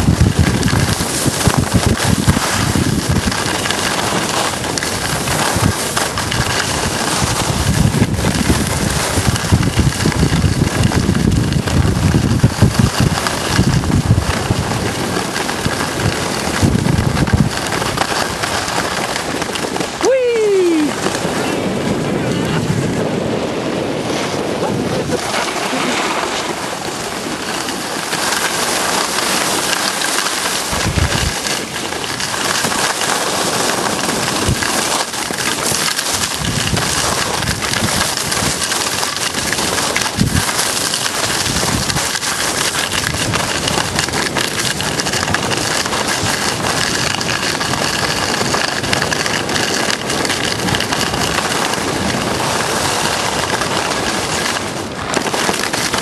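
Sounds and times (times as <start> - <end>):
skis scraping over snow: 0.0 - 56.0
wind buffeting microphone: 0.0 - 56.0.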